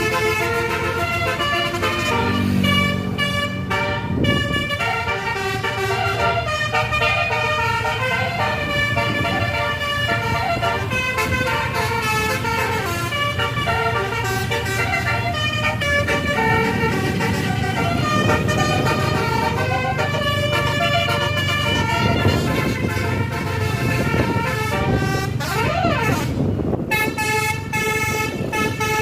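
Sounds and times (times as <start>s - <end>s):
bus engine hum: 0.0s - 29.0s
multi-tone air horn melody: 0.0s - 29.0s.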